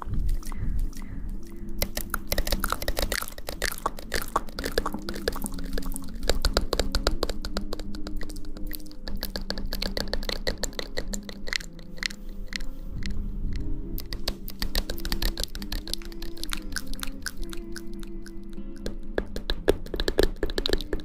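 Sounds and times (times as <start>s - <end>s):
crackling and tapping clicks: 0.0s - 21.0s.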